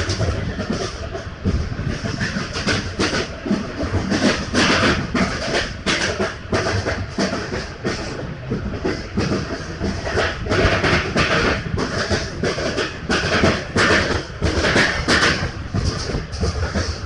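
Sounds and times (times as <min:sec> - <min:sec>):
train rumble: 0:00.0 - 0:17.0
wheels clattering over rail joints: 0:00.0 - 0:17.0.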